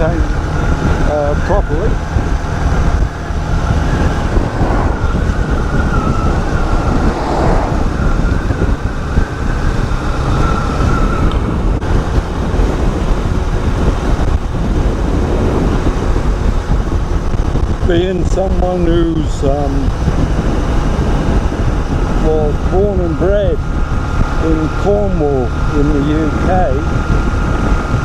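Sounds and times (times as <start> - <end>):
motorcycle running: 0.0 - 28.0
wind rush on microphone: 0.0 - 28.0.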